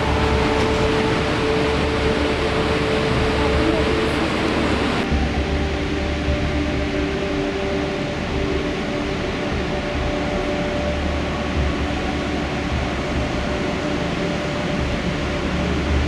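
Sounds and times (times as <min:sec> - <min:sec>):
waterfall rushing with low rumble: 0:00.0 - 0:16.0.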